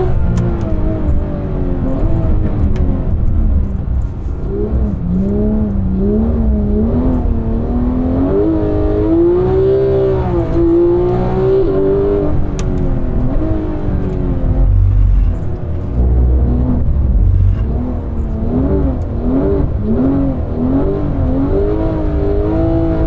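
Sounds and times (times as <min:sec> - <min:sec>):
sports car engine revving: 0:04.3 - 0:23.0.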